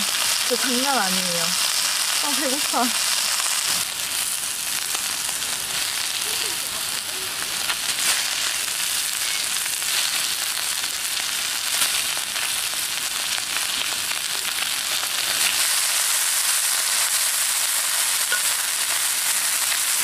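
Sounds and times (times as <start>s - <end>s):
beef sizzling on griddle: 0.0s - 20.0s.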